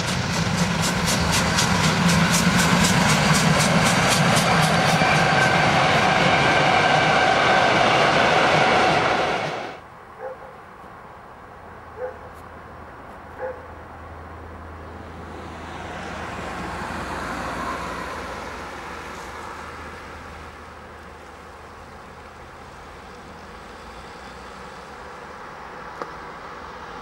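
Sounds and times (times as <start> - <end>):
distant steam locomotive working: 0.0 - 9.8, 14.8 - 27.0.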